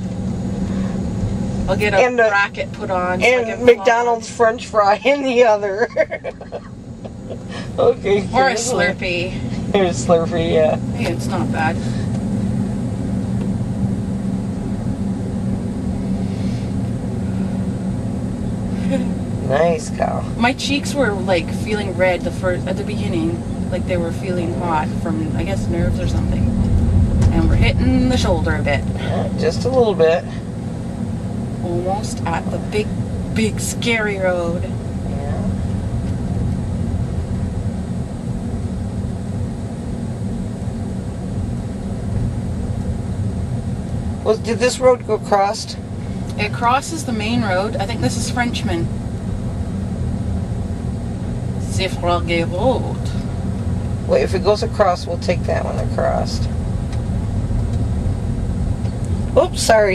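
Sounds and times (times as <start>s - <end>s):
car engine and road noise hum: 0.0s - 59.9s.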